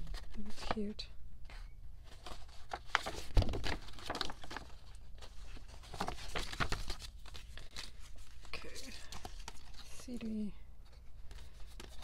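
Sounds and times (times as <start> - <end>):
paper and packaging rustling: 0.0 - 1.0, 2.0 - 12.0.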